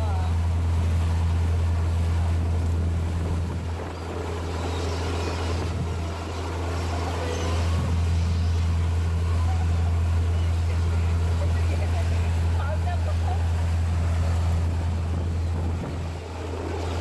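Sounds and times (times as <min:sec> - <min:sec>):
boat engine droning: 0:00.0 - 0:17.0
rushing boat wake: 0:00.0 - 0:17.0.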